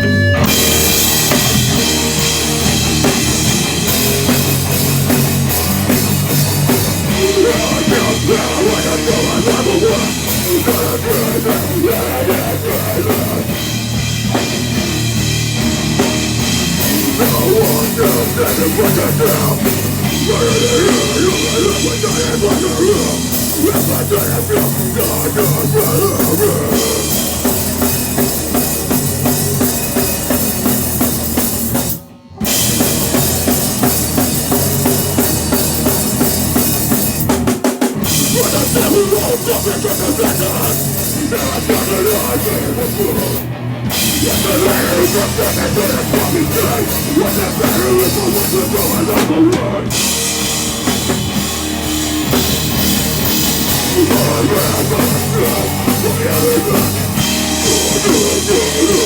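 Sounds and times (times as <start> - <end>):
drum kit and cymbals: 0.0 - 59.0
heavy rock band playing: 0.0 - 59.0.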